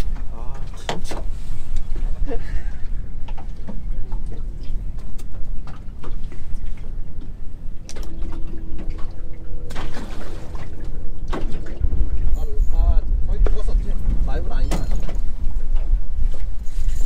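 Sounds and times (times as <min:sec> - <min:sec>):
wind rumble on microphone: 0:00.0 - 0:17.0
water splashing and dripping: 0:03.2 - 0:17.0.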